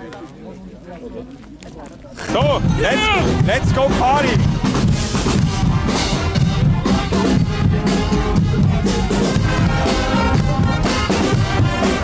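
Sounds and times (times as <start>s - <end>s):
loud party music with drums: 2.2s - 12.0s.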